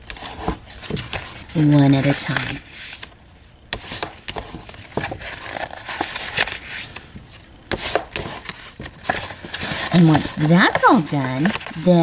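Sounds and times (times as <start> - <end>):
card stock folding rustles: 0.0 - 12.0.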